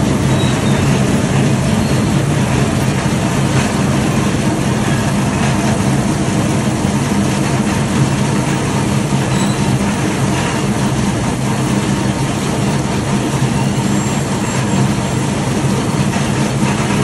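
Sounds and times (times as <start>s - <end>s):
farm machinery engine hum: 0.0s - 17.0s.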